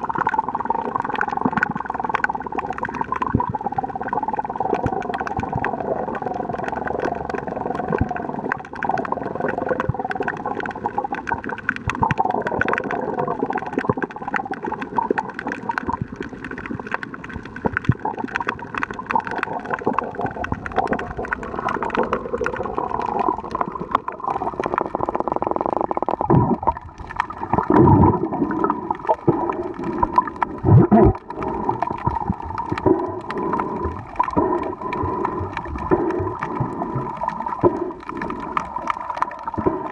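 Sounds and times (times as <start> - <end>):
fine crackle of clicks: 0.0 - 39.9
muffled underwater drone: 0.0 - 39.9
rushes of water bubbles: 0.0 - 39.9.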